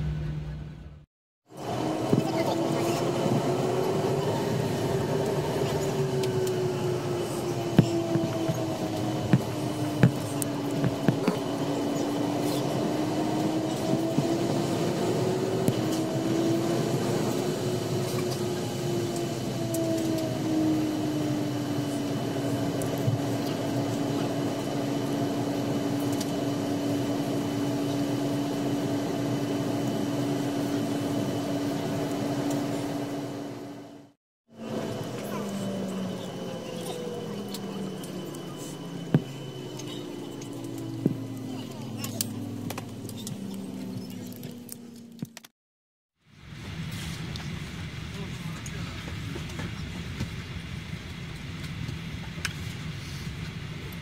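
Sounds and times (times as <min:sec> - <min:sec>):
cabin air: 0:00.0 - 0:45.4
jet engines idling hum: 0:00.0 - 0:45.5, 0:46.2 - 0:54.0
wavering drone: 0:01.6 - 0:34.0, 0:34.6 - 0:45.4.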